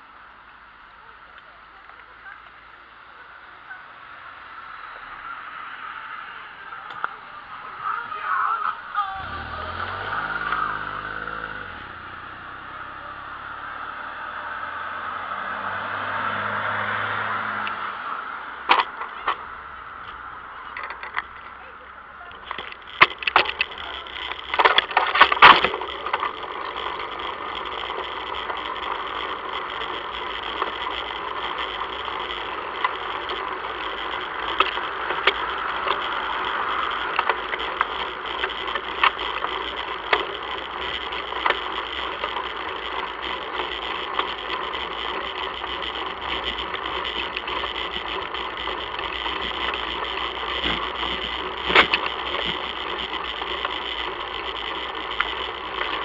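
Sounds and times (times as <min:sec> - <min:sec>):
bicycle rolling on asphalt: 0:00.0 - 0:56.0
bicycle rattling and clicking: 0:05.2 - 0:14.4, 0:18.6 - 0:56.0.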